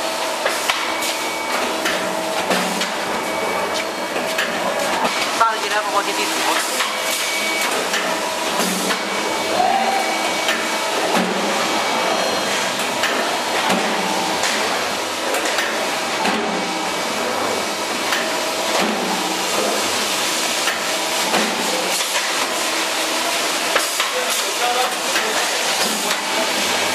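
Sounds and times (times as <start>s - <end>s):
machines hissing and humming: 0.0s - 26.9s.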